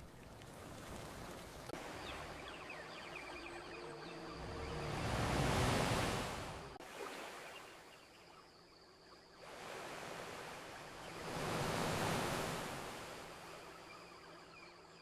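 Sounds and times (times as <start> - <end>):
ocean waves washing onto beach: 0.0 - 7.8, 9.4 - 13.8.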